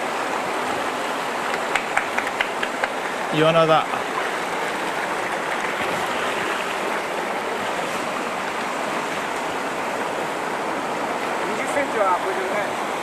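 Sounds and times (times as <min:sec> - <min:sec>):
rocky stream running water: 0:00.0 - 0:13.0.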